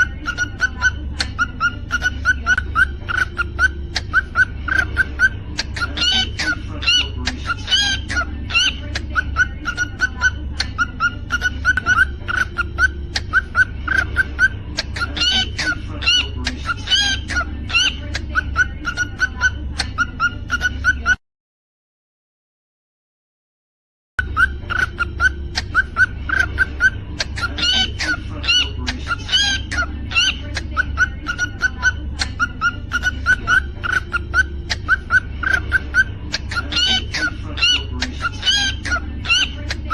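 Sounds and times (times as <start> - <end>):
cockatiel chirping: 0.0 - 21.2, 24.2 - 39.9
low steady hum: 0.0 - 21.2, 24.2 - 39.9.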